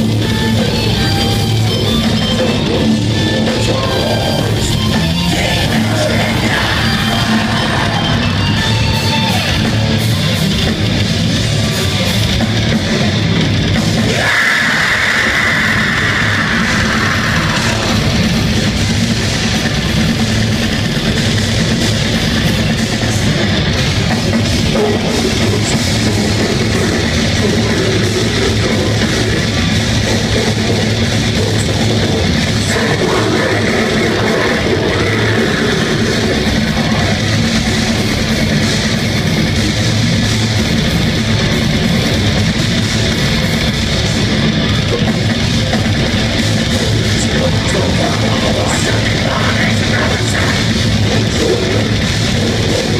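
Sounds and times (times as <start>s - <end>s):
metal band playing live: 0.0s - 52.9s.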